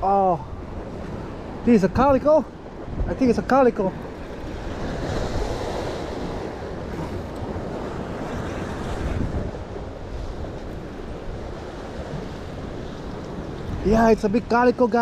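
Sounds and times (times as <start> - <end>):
surf washing over rocks: 0.0 - 15.0
wind buffeting microphone: 0.0 - 15.0.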